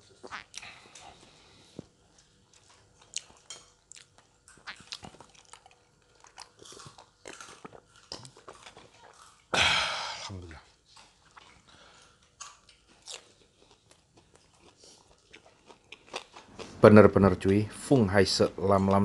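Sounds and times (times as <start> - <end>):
person chewing crispy food: 0.0 - 17.6.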